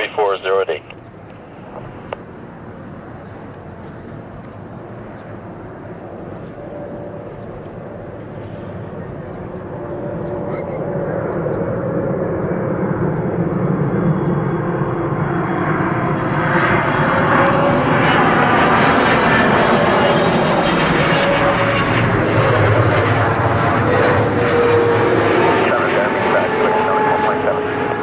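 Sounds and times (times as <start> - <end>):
jet engine rumble with whine: 0.0 - 28.0.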